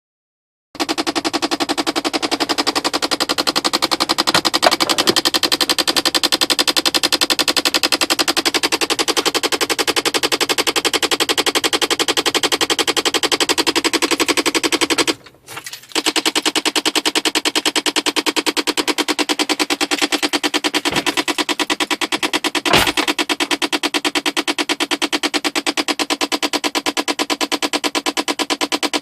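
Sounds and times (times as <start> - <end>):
rapid clicking from car: 0.8 - 29.0.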